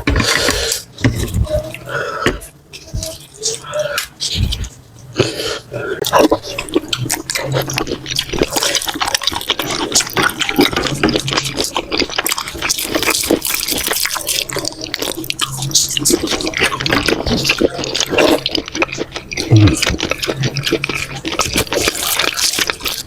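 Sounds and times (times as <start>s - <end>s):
slurping: 0.0s - 23.0s
smacking and chewing: 0.0s - 23.0s
wet eating sounds: 0.0s - 23.0s.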